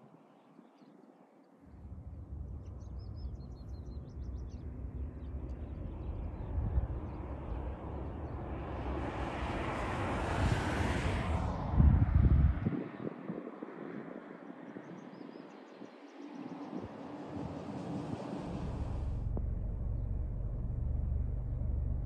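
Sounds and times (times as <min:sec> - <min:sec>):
wind buffeting microphone: 0:01.8 - 0:19.5.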